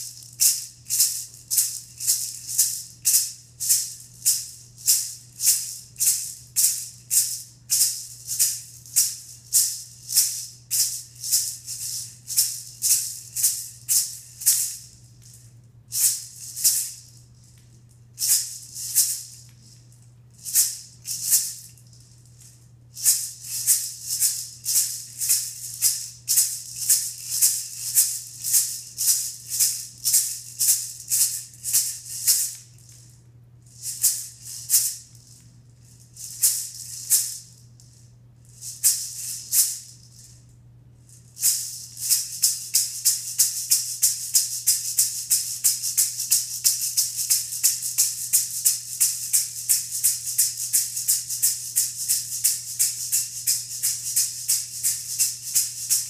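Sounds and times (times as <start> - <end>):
rattle shaking: 0.0 - 56.0.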